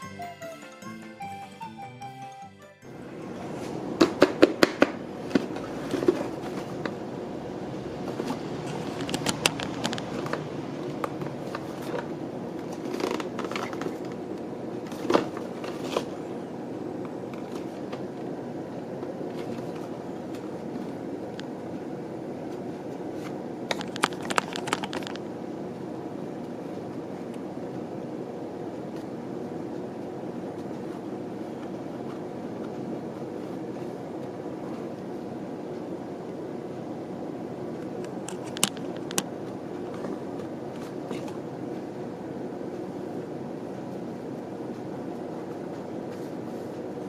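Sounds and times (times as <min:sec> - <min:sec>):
steady low hum: 0:02.8 - 0:47.0.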